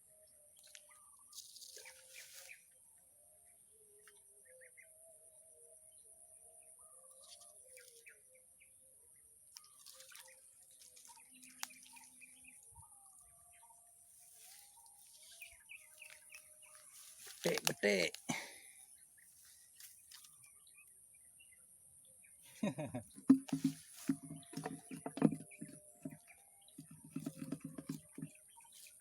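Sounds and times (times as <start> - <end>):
faint birds chirping: 0.0 - 29.0.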